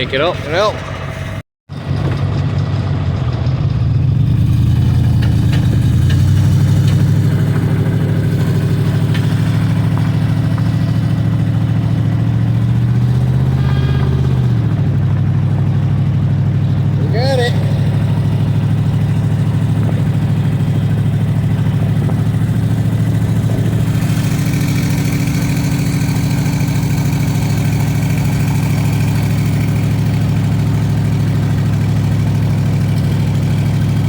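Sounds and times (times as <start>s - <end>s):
car engine running under load: 0.0s - 34.0s.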